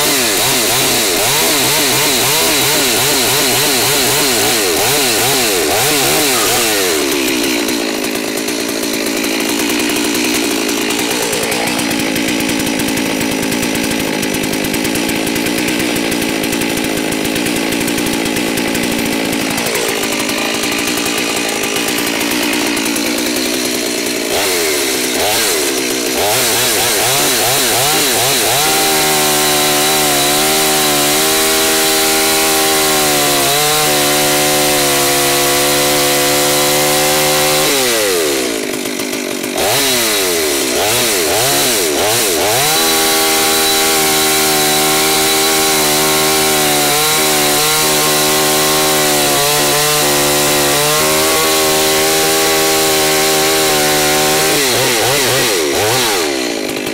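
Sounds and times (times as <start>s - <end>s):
chainsaw cutting through log: 0.0s - 56.9s.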